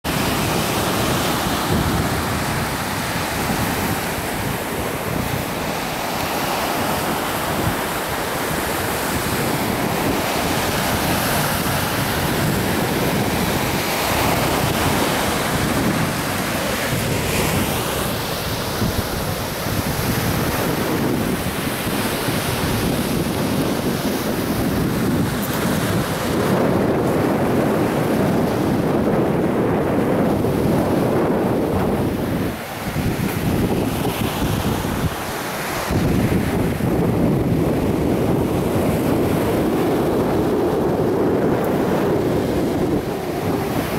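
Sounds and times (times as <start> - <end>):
surf on beach: 0.0 - 43.9
wind buffeting microphone: 0.0 - 43.9.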